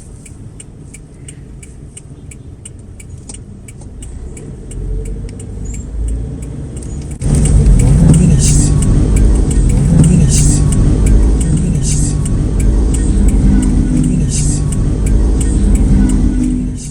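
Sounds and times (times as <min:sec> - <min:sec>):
car engine running: 0:00.0 - 0:16.9
turn signal ticking: 0:00.0 - 0:16.9.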